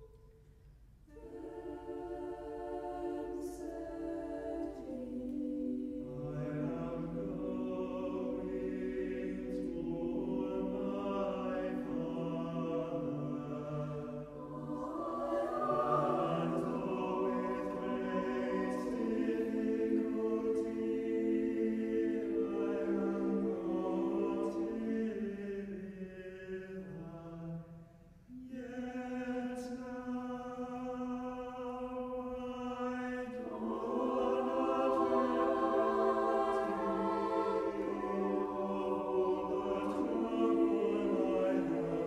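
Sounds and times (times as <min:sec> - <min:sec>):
choir singing unaccompanied: 0:01.1 - 0:42.0.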